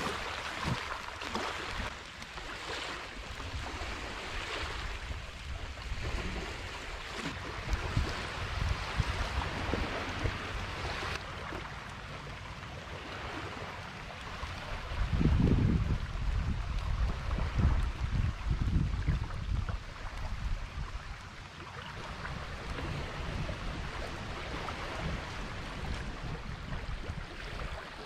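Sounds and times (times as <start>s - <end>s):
wind rumbling on microphone: 0.0s - 11.7s, 12.8s - 28.0s
small waves lapping: 0.0s - 28.0s.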